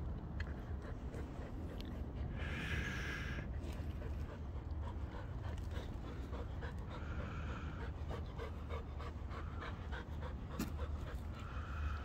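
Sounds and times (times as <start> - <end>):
dog panting: 0.4 - 2.5, 3.5 - 12.0.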